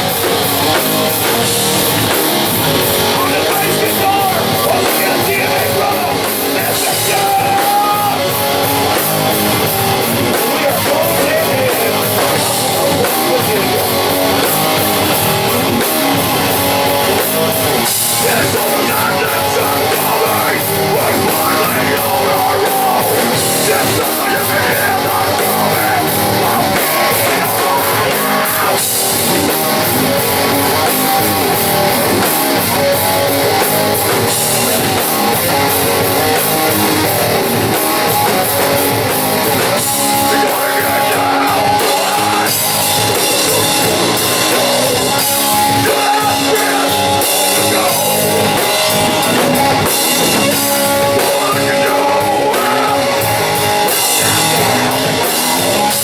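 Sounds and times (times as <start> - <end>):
distorted electric guitar: 0.0 - 56.0
drum kit: 0.0 - 56.0
person singing: 2.4 - 56.0.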